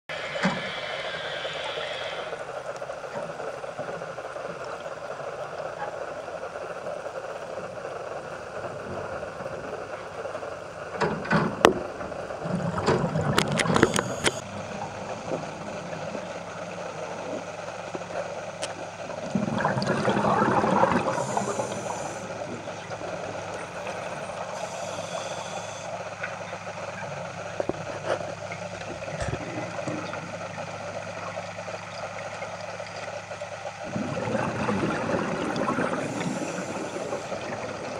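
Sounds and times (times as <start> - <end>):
underwater bubbling and rustling: 0.1 - 37.9
underwater low hum: 0.1 - 37.9.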